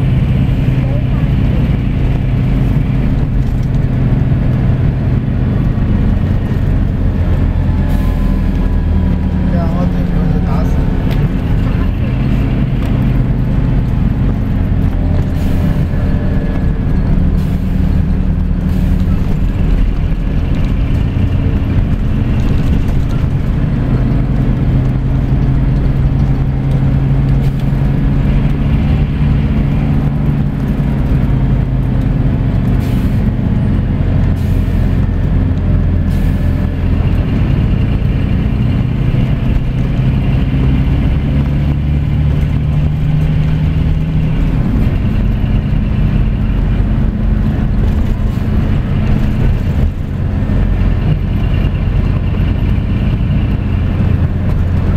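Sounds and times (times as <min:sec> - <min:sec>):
coach diesel engine drone: 0:00.0 - 0:54.9.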